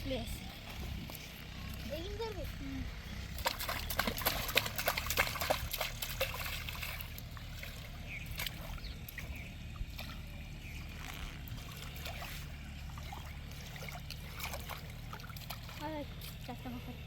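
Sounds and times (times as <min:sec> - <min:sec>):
low rumble: 0:00.0 - 0:17.0
water splashing and sloshing: 0:00.0 - 0:17.0.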